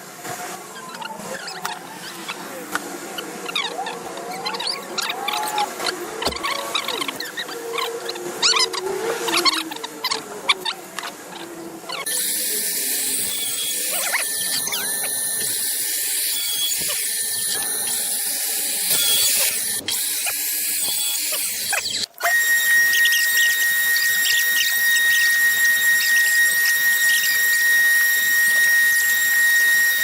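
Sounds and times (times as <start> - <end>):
power tool whining: 3.1 - 30.0.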